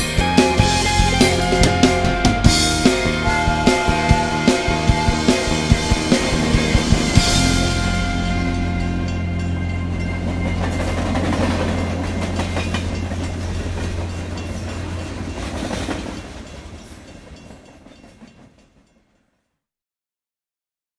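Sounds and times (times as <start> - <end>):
train wheels clacking on track: 0.0 - 19.1.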